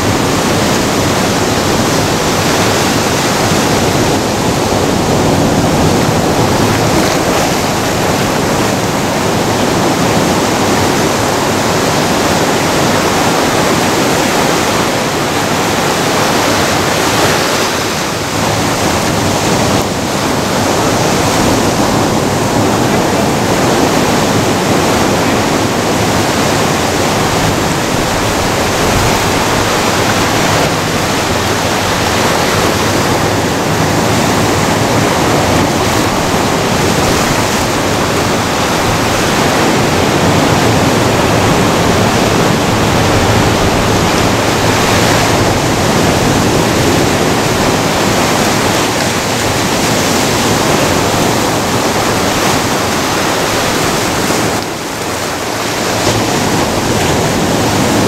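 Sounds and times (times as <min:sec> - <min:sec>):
ocean surf breaking on rocks: 0:00.0 - 0:58.0.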